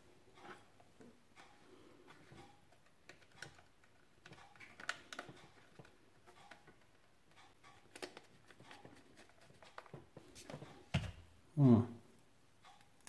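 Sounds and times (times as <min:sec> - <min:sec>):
plastic parts clicking and tapping: 0:00.4 - 0:11.2.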